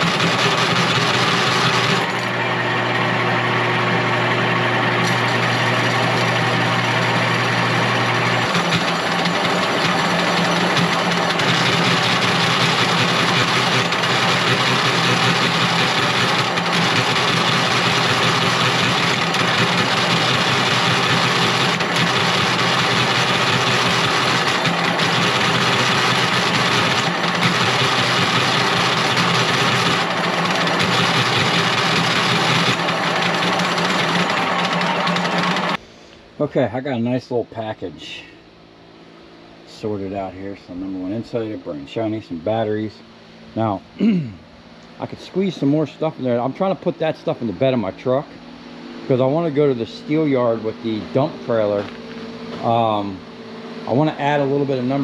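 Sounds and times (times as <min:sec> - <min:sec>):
machine motor humming: 0:00.0 - 0:35.8, 0:39.7 - 0:55.0.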